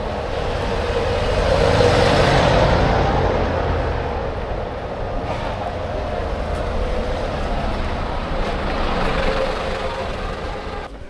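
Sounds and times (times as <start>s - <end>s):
bus engine driving past: 0.0s - 11.0s.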